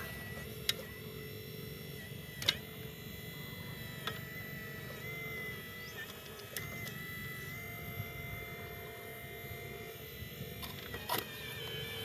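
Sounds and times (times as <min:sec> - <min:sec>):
model motors whining: 0:00.0 - 0:12.0.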